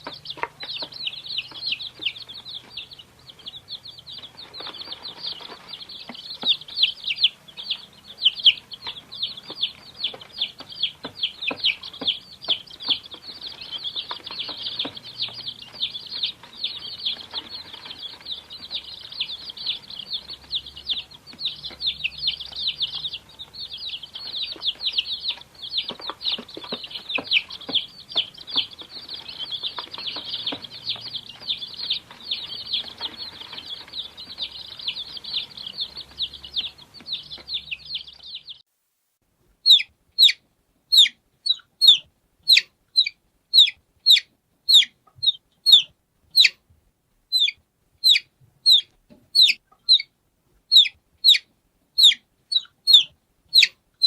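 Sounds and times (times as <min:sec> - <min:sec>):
baby chicks peeping: 0:00.0 - 0:38.6, 0:39.6 - 0:46.7, 0:47.3 - 0:54.0.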